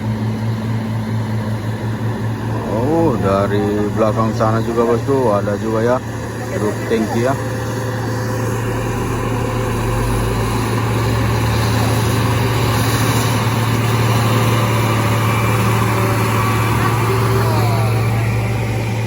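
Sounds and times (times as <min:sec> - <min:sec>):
road noise: 0:00.0 - 0:19.0
truck diesel engines droning: 0:00.0 - 0:19.0.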